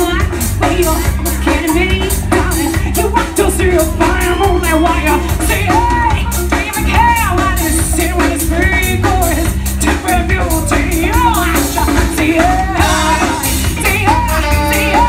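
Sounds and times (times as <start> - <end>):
live band playing: 0.0 - 15.0
woman singing lead: 0.0 - 15.0.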